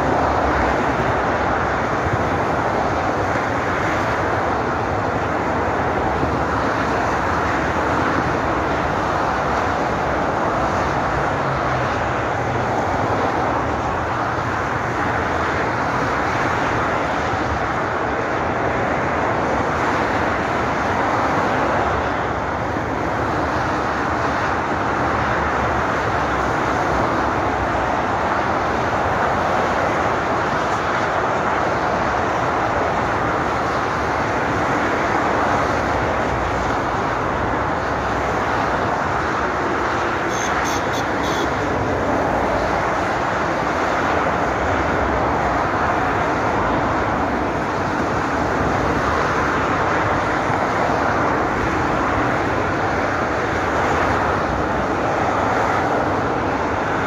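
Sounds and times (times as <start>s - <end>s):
motorway traffic rushing past: 0.0s - 57.0s.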